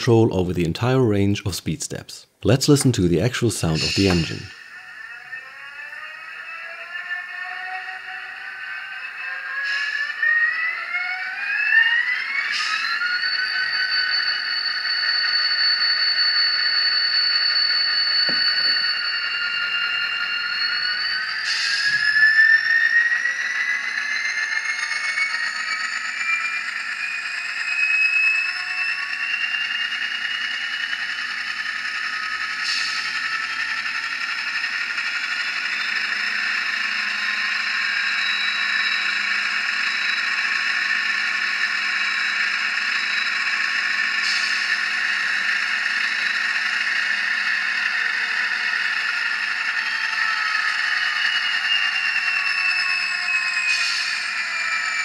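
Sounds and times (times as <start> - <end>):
model train diesel engine sound: 0.0 - 55.0.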